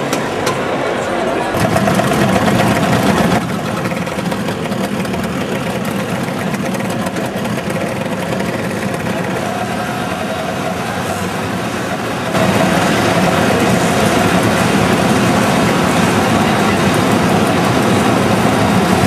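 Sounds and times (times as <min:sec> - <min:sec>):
scooter engines running: 0:00.0 - 0:19.0.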